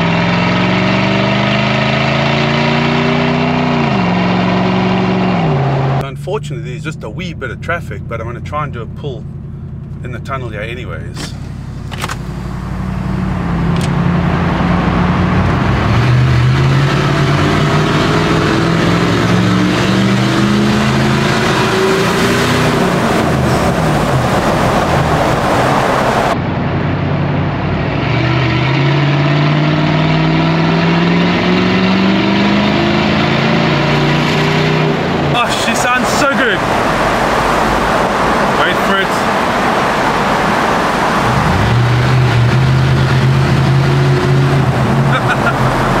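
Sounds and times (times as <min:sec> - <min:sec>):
straight-piped engine revving: 0:00.0 - 0:08.6, 0:11.2 - 0:26.4, 0:27.8 - 0:46.0.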